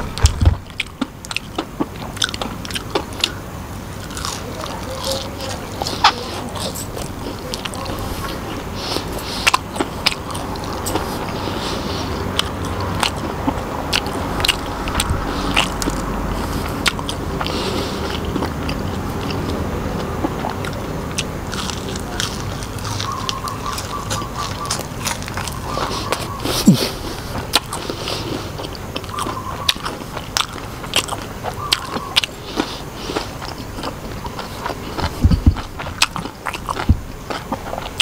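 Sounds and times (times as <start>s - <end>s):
chewing crispy fried food: 0.0s - 38.0s
wet mouth sounds: 4.0s - 38.0s.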